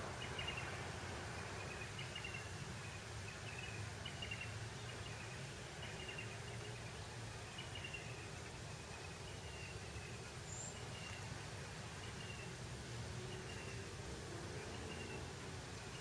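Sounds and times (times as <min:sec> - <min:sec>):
bird chirping: 0:00.1 - 0:00.8, 0:01.4 - 0:12.6, 0:13.3 - 0:13.9, 0:14.6 - 0:16.0.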